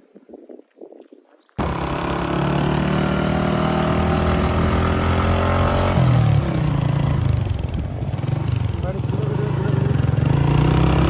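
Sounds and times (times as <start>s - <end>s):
vehicle engine running: 1.6s - 11.0s.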